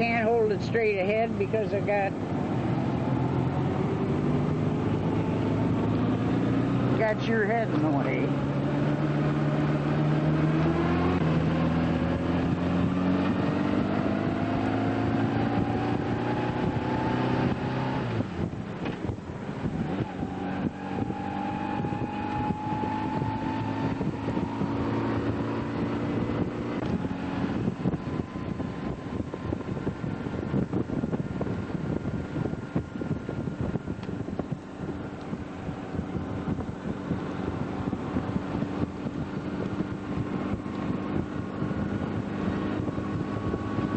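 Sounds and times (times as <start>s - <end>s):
motorcycle engine accelerating: 0.0s - 43.9s
wind buffeting microphone: 0.0s - 43.9s.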